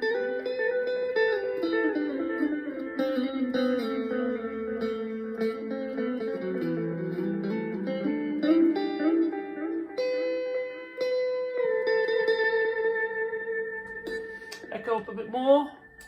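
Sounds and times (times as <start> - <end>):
electric guitar notes with echo: 0.0 - 16.0
guitar chord: 0.0 - 16.0.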